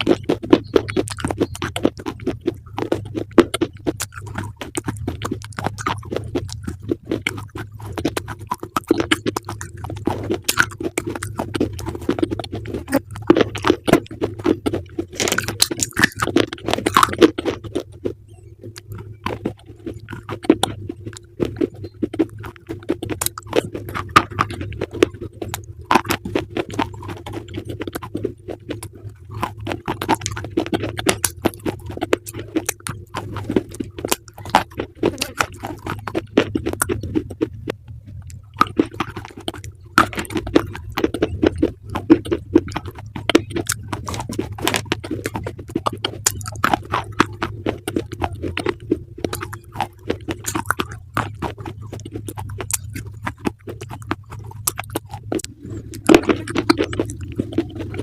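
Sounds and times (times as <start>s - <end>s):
crunchy food chewing: 0.0s - 58.0s
low hum: 0.0s - 58.0s.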